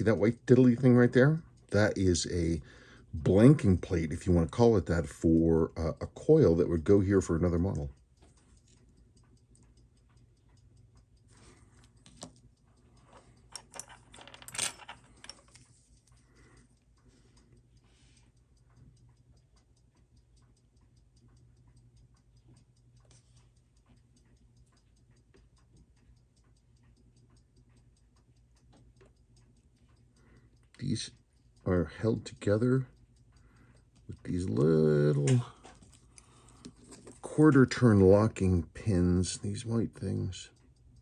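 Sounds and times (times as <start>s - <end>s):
mechanical clock ticking fast: 0.0s - 14.2s, 15.1s - 41.0s.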